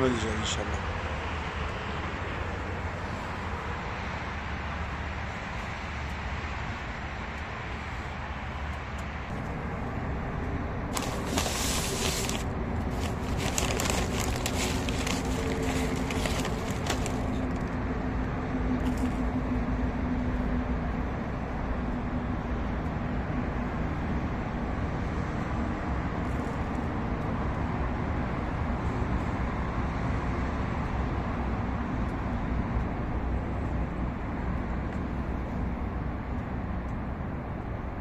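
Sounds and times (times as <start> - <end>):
engine hum: 0.0 - 38.0
traffic rumble: 0.0 - 38.0.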